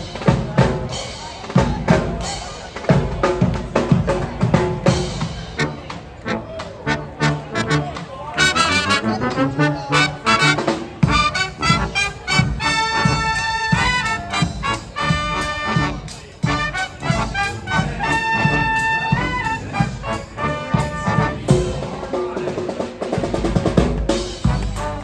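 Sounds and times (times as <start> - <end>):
brass band music: 0.0 - 25.0
steady drum beat: 0.0 - 25.0.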